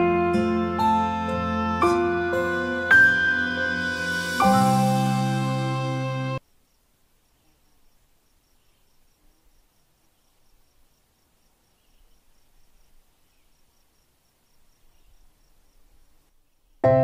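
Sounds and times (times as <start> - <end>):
insect chirping: 2.3 - 16.9.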